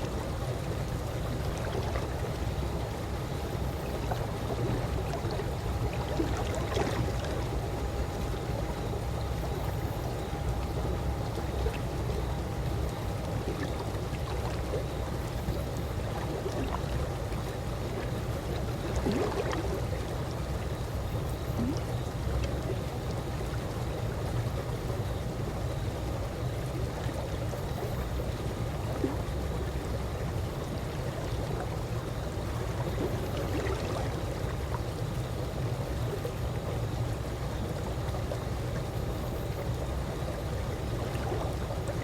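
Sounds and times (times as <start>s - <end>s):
faint water gurgles: 0.0s - 42.0s
pool water lapping: 0.0s - 42.0s.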